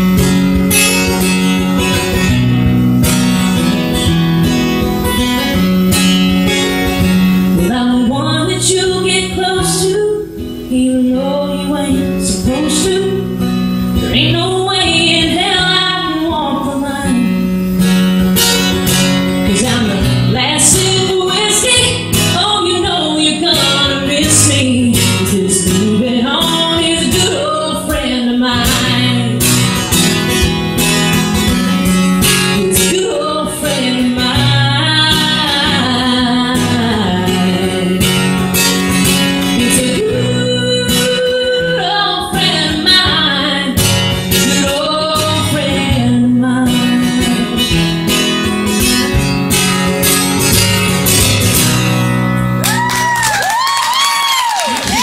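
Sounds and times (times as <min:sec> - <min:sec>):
acoustic guitar strumming: 0:00.0 - 0:55.0
woman singing country song: 0:00.0 - 0:55.0.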